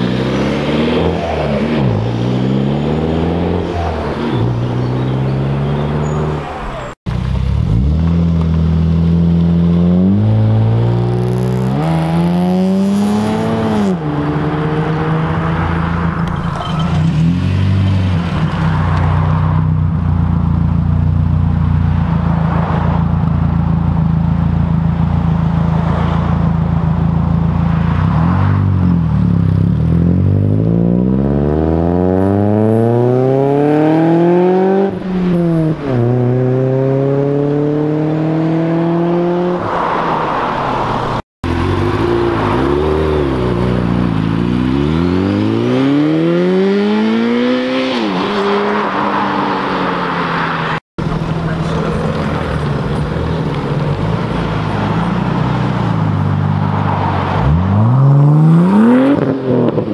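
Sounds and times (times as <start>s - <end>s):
car engine accelerating: 0.0s - 21.3s, 22.0s - 39.7s, 40.9s - 59.9s.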